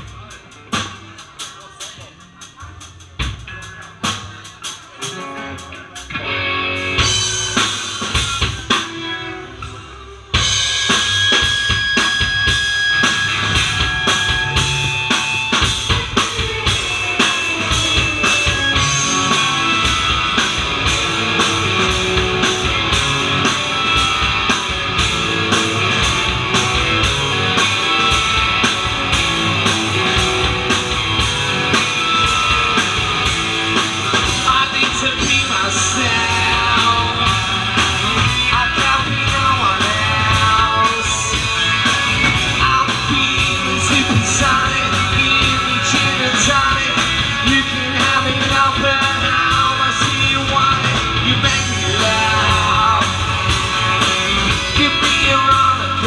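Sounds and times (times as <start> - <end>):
guitars: 0.0 - 56.0
rock band playing: 0.0 - 56.0
drum beat: 10.4 - 56.0.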